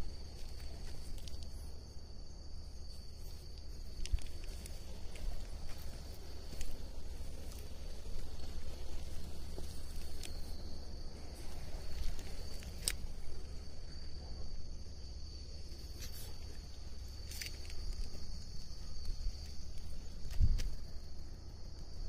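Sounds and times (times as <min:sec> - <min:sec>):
night insects chirring: 0:00.0 - 0:22.0.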